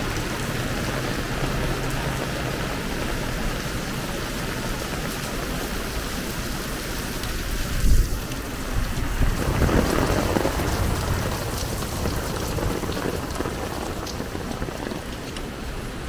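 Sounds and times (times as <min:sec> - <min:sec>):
heavy rain pouring: 0:00.0 - 0:16.0
low rumble of thunder: 0:00.0 - 0:16.0
sharp raindrop ticks: 0:00.0 - 0:16.0.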